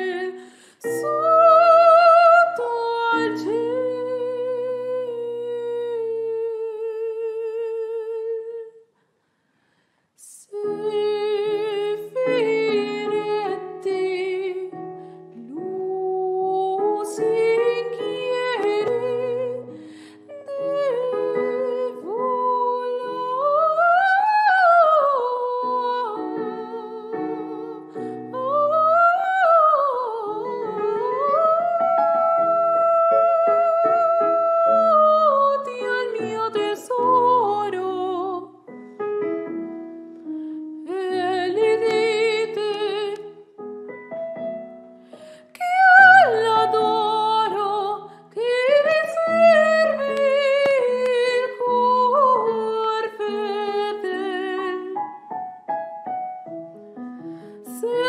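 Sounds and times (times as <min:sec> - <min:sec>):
piano accompaniment: 0:00.0 - 0:06.4, 0:10.7 - 0:58.0
soprano singing with vibrato: 0:00.0 - 0:08.9, 0:10.2 - 0:38.8, 0:40.8 - 0:43.6, 0:45.4 - 0:55.3, 0:57.6 - 0:58.0.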